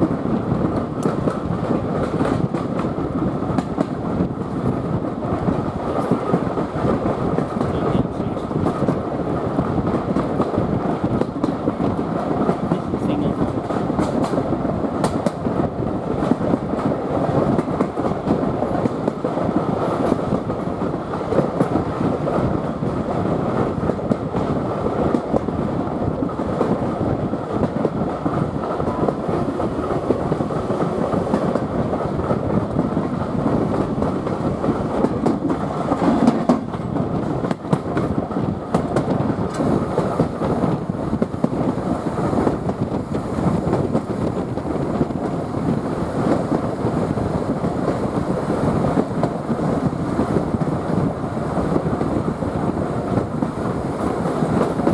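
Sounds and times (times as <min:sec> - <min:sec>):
train wheels on track: 0:00.0 - 0:54.9.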